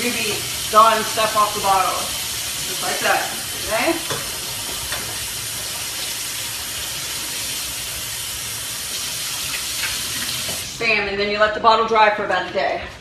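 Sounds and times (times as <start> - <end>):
faucet running into steel sink: 0.0 - 10.7.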